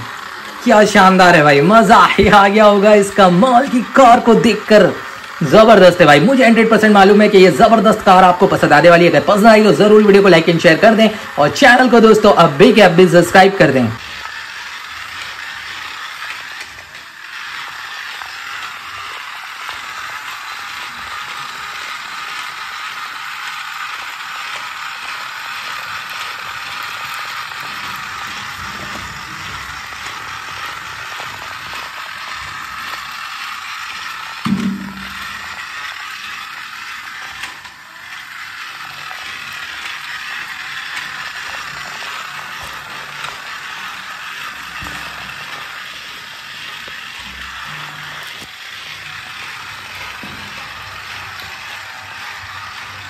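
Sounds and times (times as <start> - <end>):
toy car motor whirring and rattling: 0.0 - 53.0.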